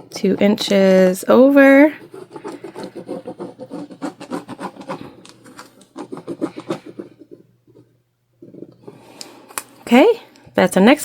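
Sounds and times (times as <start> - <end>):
pen scratching on fabric: 0.0 - 9.4.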